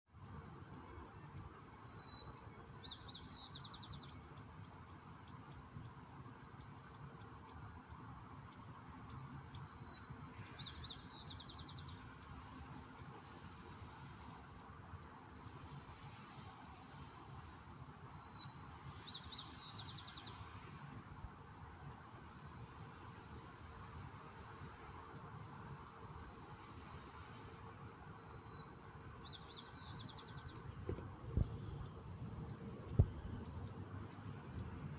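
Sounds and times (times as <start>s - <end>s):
songbird singing: 0.1s - 34.9s
steady background hiss: 0.1s - 34.9s.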